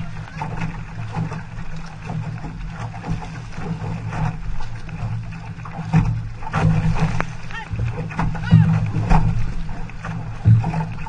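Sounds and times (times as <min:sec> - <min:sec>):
paddle splashes: 0:00.0 - 0:11.0
water rushing along hull: 0:00.0 - 0:11.0.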